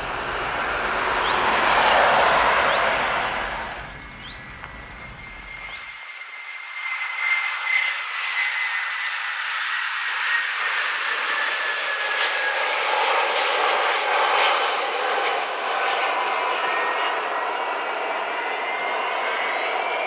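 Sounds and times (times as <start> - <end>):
jet engines with high whine: 0.0 - 20.0.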